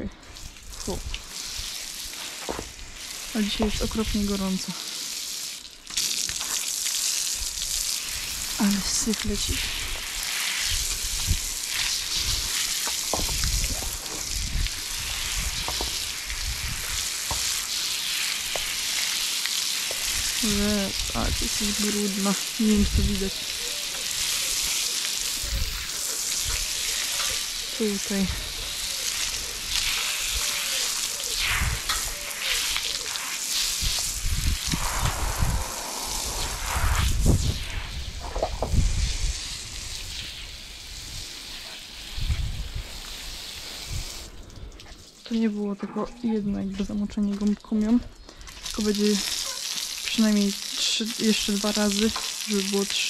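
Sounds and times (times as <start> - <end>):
water spraying from hose: 0.0 - 53.0
water splashing on wet coat: 0.3 - 45.4, 47.2 - 53.0.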